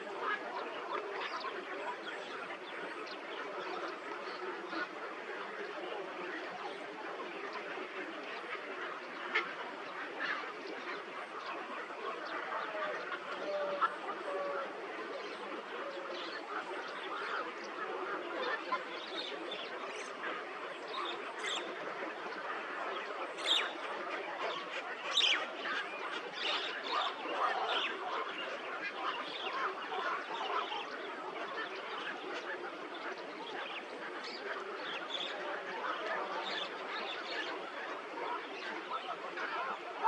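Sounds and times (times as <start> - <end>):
chorus of birds calling: 0.0 - 40.0.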